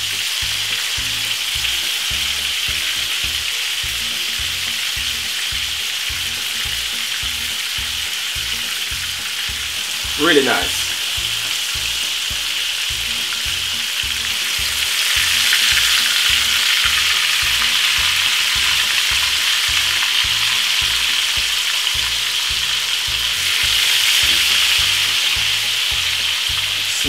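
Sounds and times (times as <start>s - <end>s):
chicken sizzling in frying oil: 0.0s - 27.0s.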